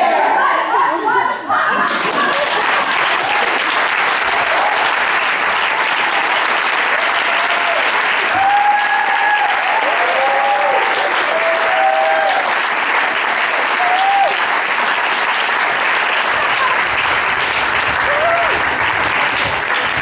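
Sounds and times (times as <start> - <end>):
audience applauding: 1.8 - 20.0.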